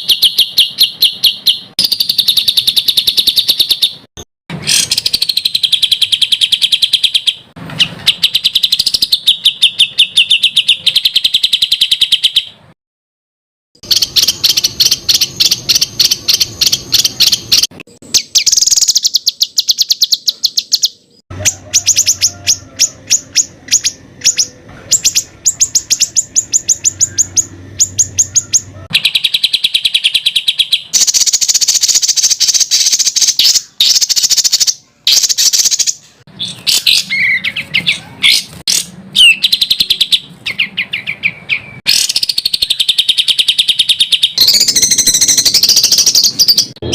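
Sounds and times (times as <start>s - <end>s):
songbird rapid sharp notes: 0.0s - 12.6s, 13.8s - 46.9s.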